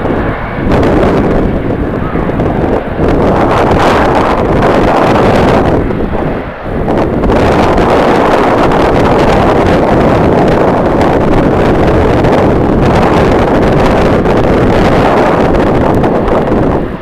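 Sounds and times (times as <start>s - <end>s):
wind blasting microphone: 0.0s - 17.0s.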